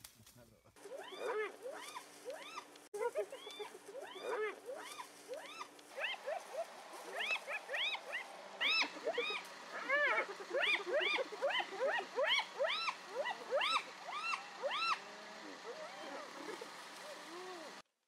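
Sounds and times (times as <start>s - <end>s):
hyenas giggling and squealing: 0.8s - 17.8s.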